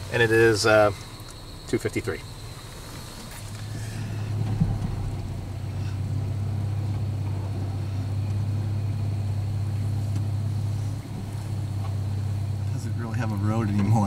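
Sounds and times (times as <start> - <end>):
truck engine low drone: 0.0 - 14.0.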